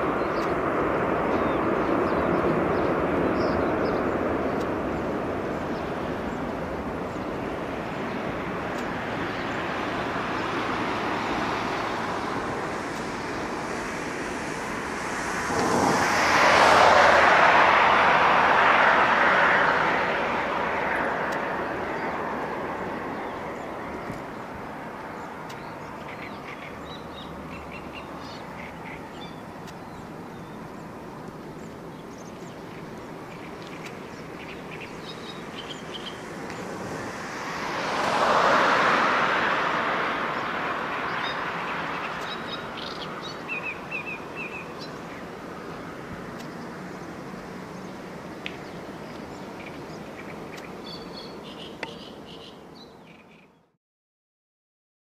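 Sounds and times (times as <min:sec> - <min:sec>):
small birds chirping: 0:00.0 - 0:15.7, 0:21.0 - 0:37.2, 0:40.3 - 0:53.7
distant jet engines: 0:00.0 - 0:53.4.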